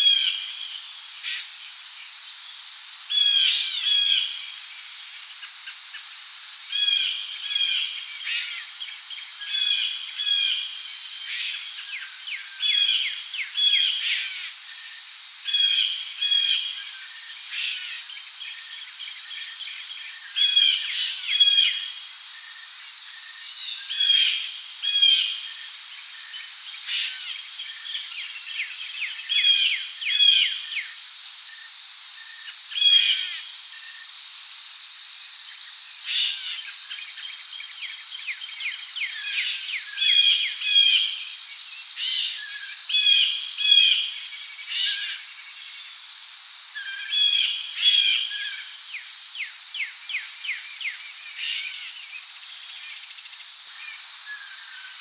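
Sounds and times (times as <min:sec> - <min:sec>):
crickets droning: 0:00.0 - 0:55.0.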